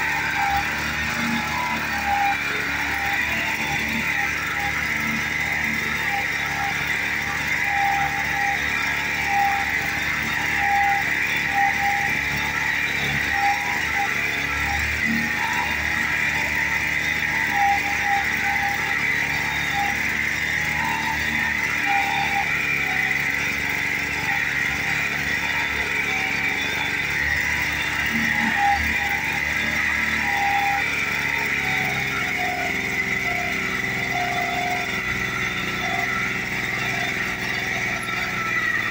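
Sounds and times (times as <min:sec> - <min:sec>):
walking tractor engine running: 0:00.0 - 0:38.9.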